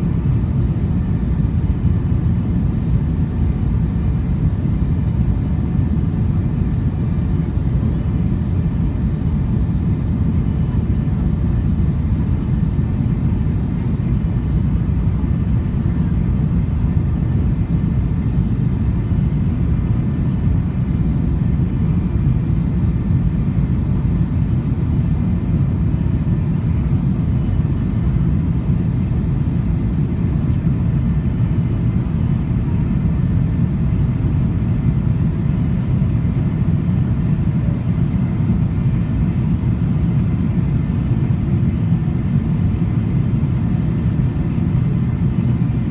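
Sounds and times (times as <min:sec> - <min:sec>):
jet engines rumbling: 0:00.0 - 0:45.9.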